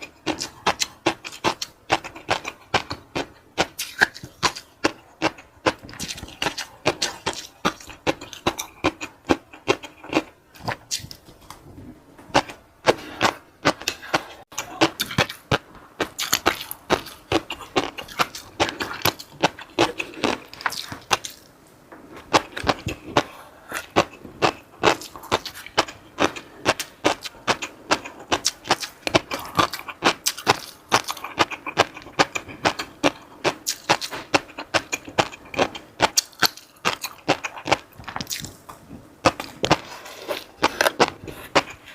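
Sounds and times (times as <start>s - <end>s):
chewing and crunching food: 0.0s - 41.9s.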